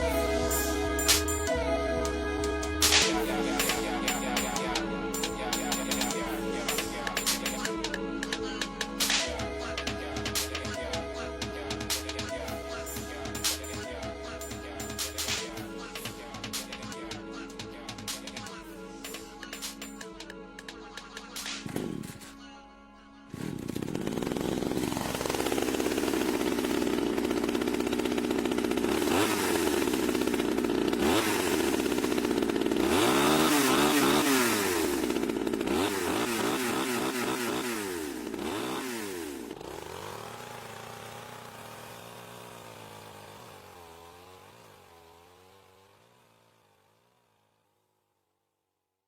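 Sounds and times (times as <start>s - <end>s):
chainsaw engine revving: 0.0s - 20.3s, 21.2s - 22.4s, 23.3s - 47.8s.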